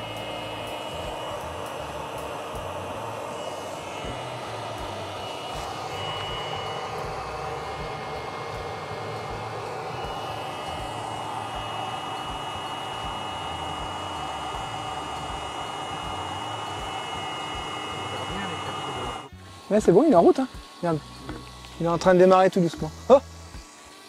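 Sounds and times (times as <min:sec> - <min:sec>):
heater blower whirring: 0:00.0 - 0:24.0
high whine: 0:00.0 - 0:24.0.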